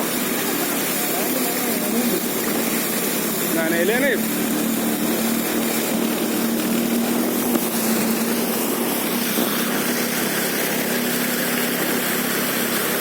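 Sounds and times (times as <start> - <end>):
vehicle engine running: 0.0 - 13.0
water rushing: 0.0 - 13.0.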